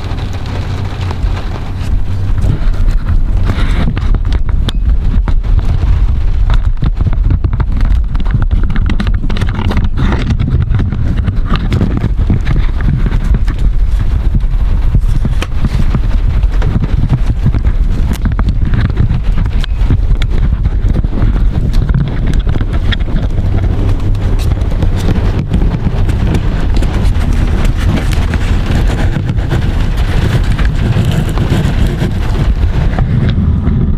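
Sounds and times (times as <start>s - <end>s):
raindrops ticking on hard surface: 0.0s - 33.6s
low rain rumble: 0.0s - 33.9s.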